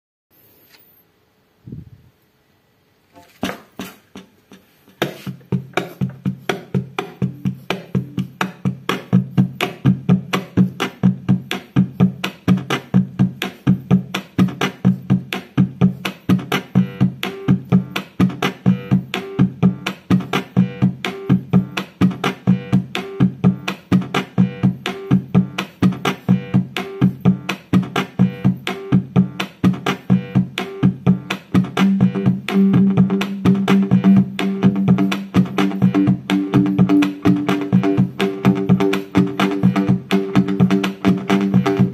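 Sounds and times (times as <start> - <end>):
instrumental music with fast beat: 3.4 - 41.9.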